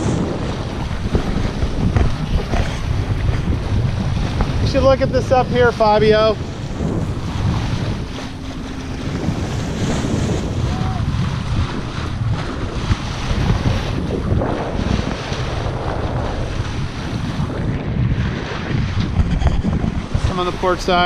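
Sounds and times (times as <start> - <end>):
water rushing along boat bow: 0.0 - 21.0
wind buffeting microphone: 0.0 - 21.0.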